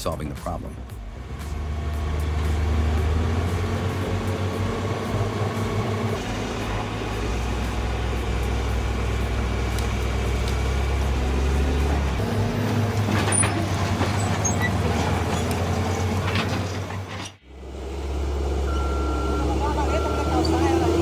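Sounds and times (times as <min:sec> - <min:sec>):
heavy diesel machinery running: 0:00.8 - 0:21.0.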